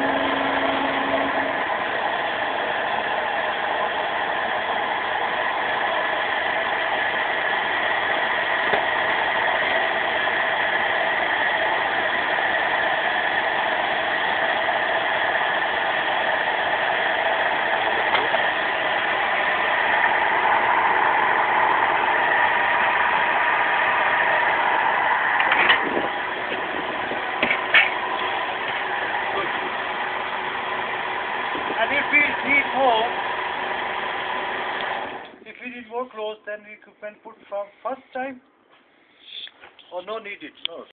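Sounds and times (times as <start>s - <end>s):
hydraulic press humming: 0.0s - 35.4s.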